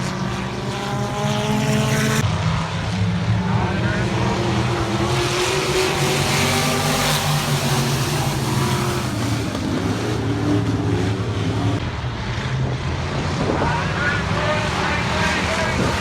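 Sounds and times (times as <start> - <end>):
racing car engines passing: 0.0 - 16.0.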